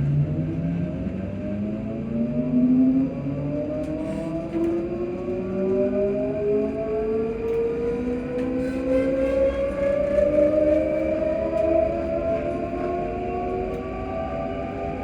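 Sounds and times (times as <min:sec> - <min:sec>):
electric train motors humming: 0:03.0 - 0:15.0.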